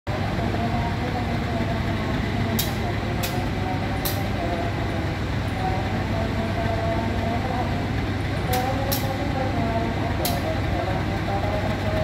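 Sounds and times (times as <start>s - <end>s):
locomotive engine idling: 0.1s - 12.0s.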